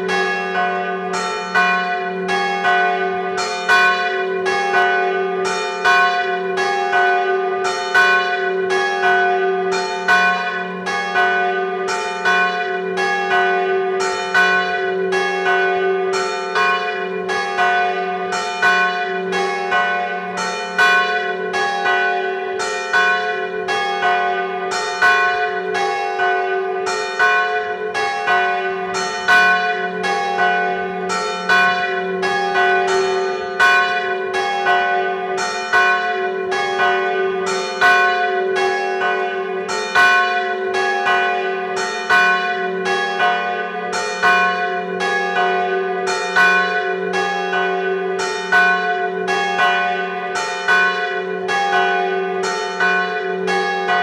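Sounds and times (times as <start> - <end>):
church bells tolling: 0.0 - 54.0.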